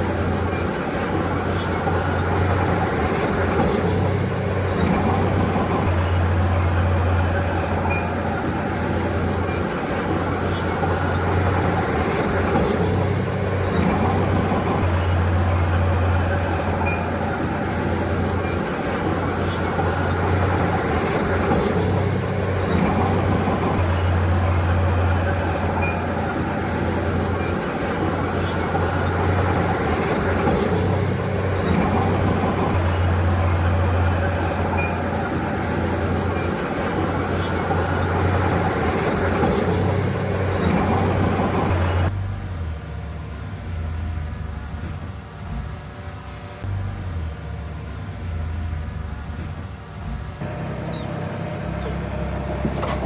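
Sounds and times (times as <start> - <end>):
machine squeaking: 0.0 - 42.2, 48.6 - 53.0
bulldozer diesel engine running: 0.0 - 53.0.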